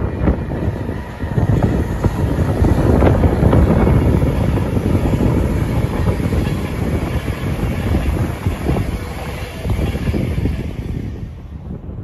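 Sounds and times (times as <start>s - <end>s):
train clicks: 0.0s - 11.8s
passenger train passing: 0.0s - 12.0s
wind buffeting microphone: 0.0s - 12.0s.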